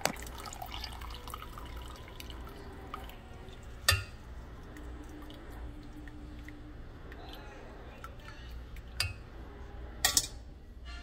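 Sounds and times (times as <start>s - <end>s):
liquid dripping into a pot: 0.0s - 9.3s.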